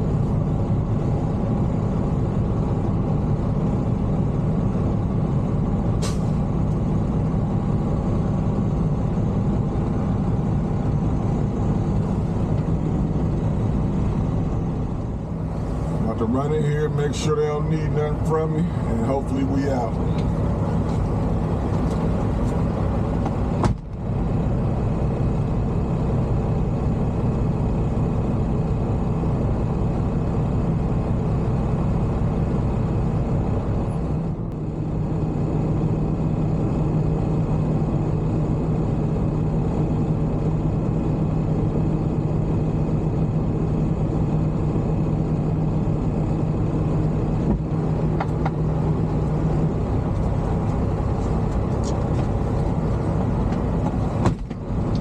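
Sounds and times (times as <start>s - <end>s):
steady low hum: 0.0s - 55.0s
truck engine running: 0.0s - 55.0s.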